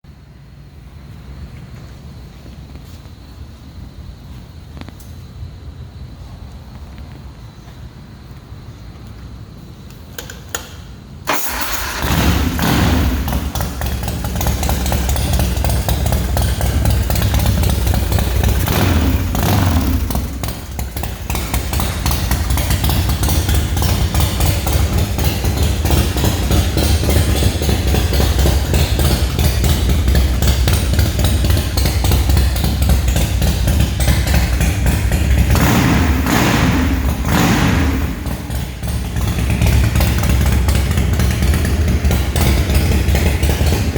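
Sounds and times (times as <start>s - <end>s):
motorcycle engine idling and revving: 0.1s - 43.9s.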